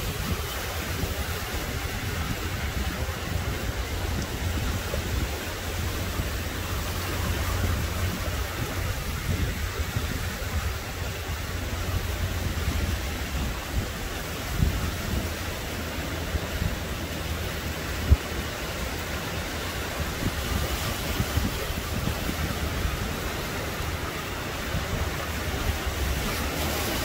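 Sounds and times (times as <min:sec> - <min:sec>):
small waves breaking on sand: 0:00.0 - 0:27.0.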